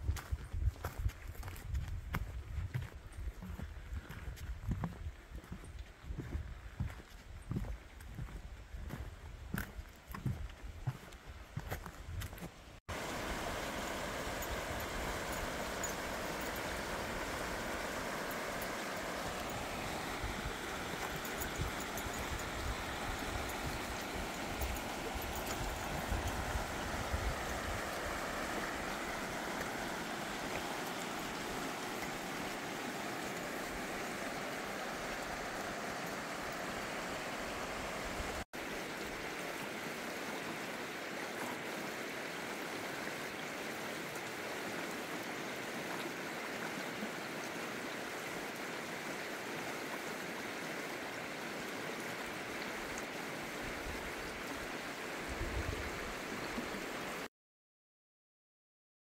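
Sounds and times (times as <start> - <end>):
creek water rushing over cobbles: 0.0 - 57.3.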